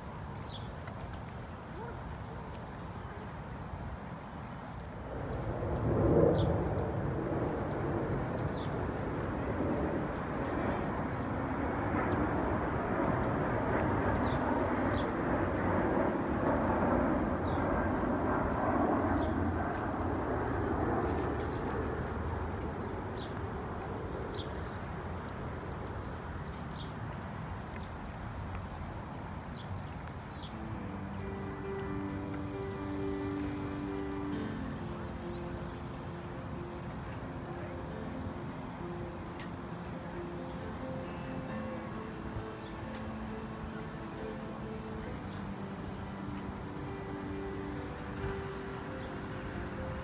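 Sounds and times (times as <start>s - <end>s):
broad rushing noise: 0.0s - 50.0s.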